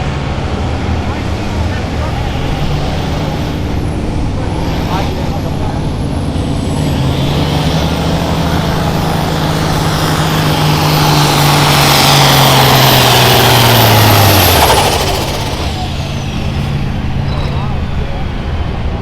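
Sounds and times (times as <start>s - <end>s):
tractor engine at full throttle: 0.0s - 19.0s.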